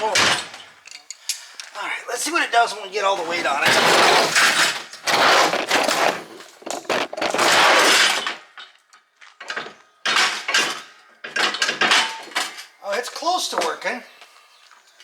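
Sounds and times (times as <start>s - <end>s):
yard cart clattering and clanking: 0.0s - 14.0s.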